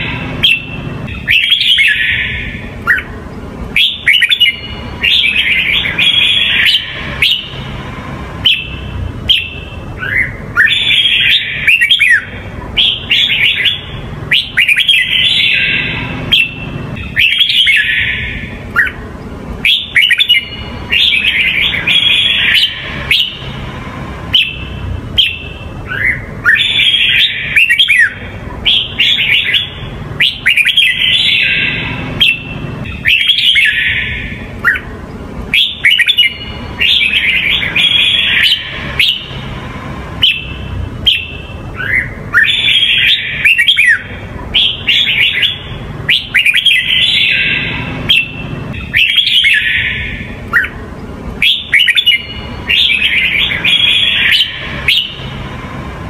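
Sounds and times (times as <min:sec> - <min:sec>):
bird singing warbled phrases: 0:00.0 - 0:56.0
low steady rumble: 0:00.0 - 0:56.0.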